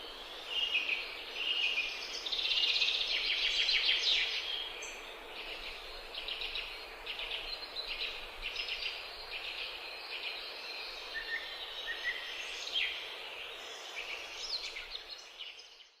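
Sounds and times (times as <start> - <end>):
steady background hiss: 0.0 - 15.8.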